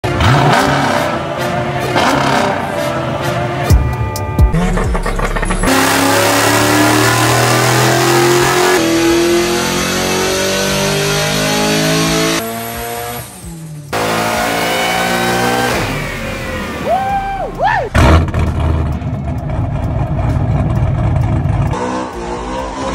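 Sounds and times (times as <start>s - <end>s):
car engine accelerating hard: 0.0s - 3.6s, 5.2s - 22.9s.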